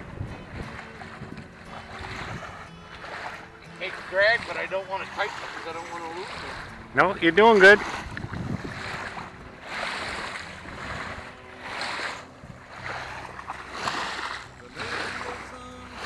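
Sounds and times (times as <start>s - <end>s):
wind on microphone: 0.0s - 3.5s, 6.2s - 16.0s
small waves washing on shore: 0.0s - 16.0s.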